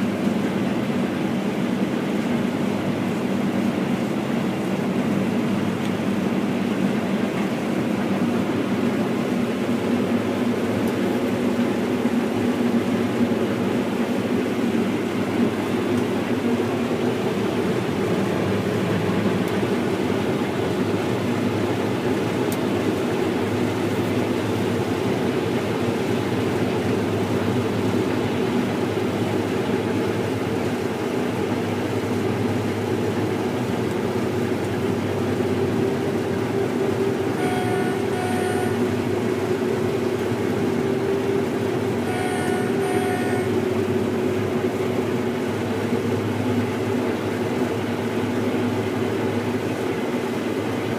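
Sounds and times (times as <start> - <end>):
combine harvester droning: 0.0 - 50.9.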